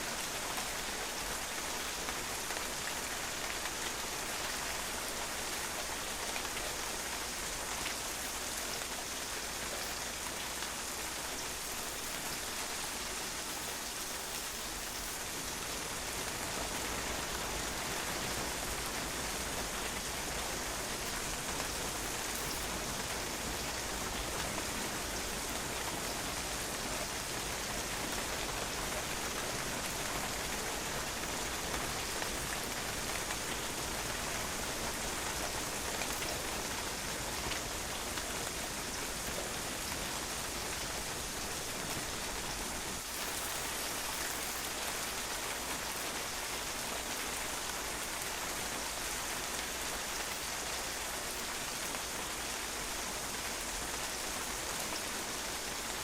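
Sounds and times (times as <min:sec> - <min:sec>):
rain on a patio: 0:00.0 - 0:56.0.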